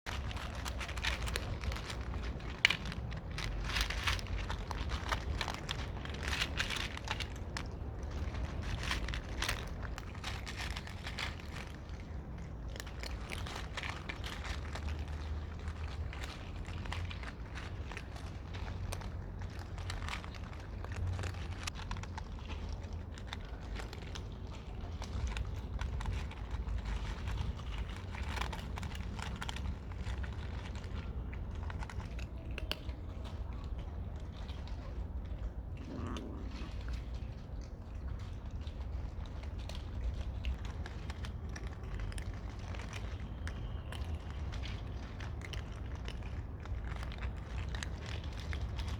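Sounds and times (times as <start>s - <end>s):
cats chewing food: 0.0s - 48.9s.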